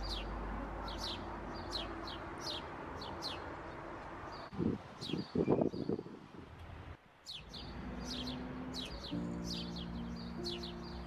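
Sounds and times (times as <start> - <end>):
small birds chirping: 0.0 - 6.2, 7.1 - 11.0.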